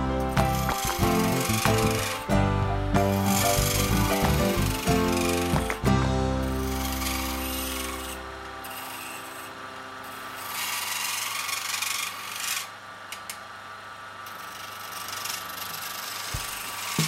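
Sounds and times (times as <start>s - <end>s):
lathe chisel scraping wood: 0.0s - 12.8s, 14.2s - 17.0s.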